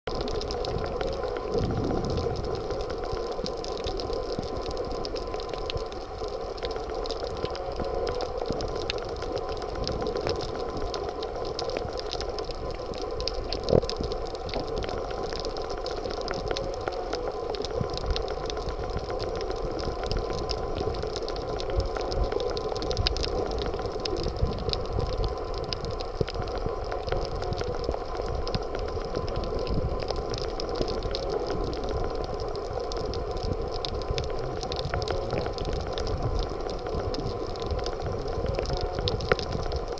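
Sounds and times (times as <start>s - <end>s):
muffled underwater rushing: 0.1s - 39.9s
small underwater clicks: 0.1s - 39.9s.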